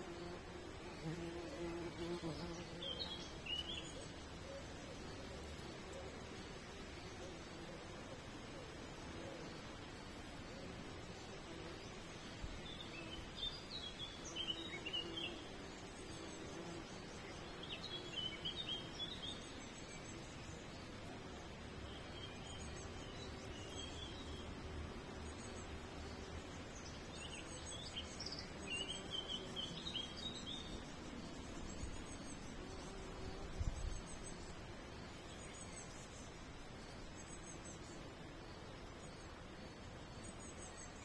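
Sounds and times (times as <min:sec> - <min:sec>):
background hiss: 0:00.0 - 0:41.0
small songbirds twittering: 0:00.0 - 0:41.0.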